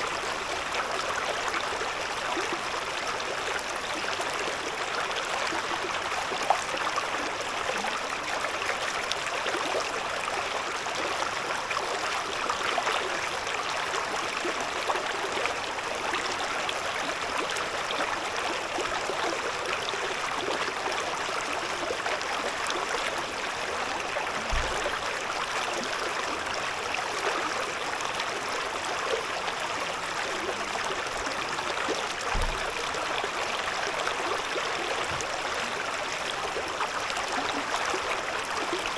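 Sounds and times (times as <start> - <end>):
river babbling over stones: 0.0 - 38.9.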